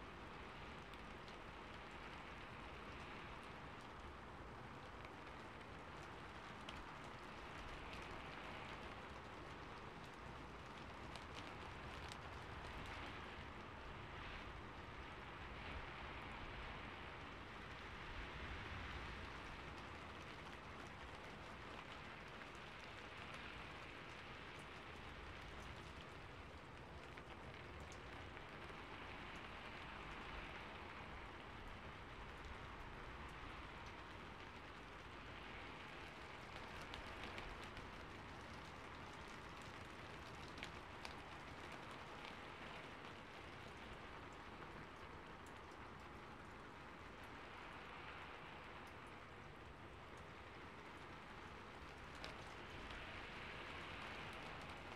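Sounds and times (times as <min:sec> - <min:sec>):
raindrop ticks: 0:00.0 - 0:54.9
steady rain hiss: 0:00.0 - 0:54.9.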